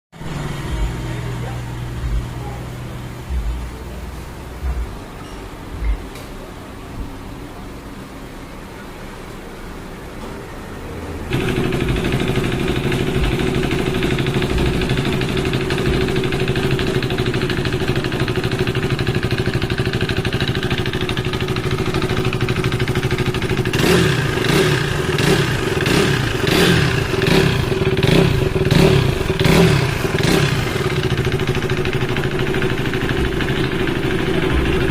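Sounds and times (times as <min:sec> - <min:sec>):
motorcycle engine idling and revving: 0:00.2 - 0:06.2, 0:11.1 - 0:34.9.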